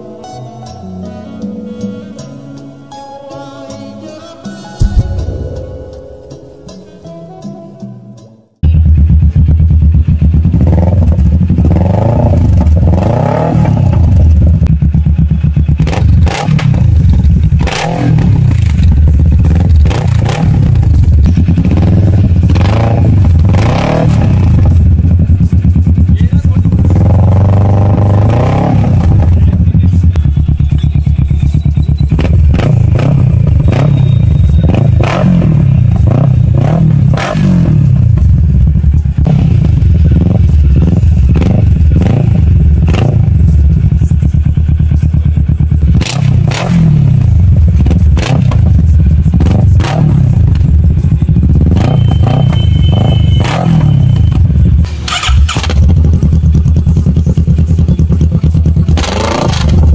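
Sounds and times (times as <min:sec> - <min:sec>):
motorcycle engine revving: 0:08.6 - 0:59.9.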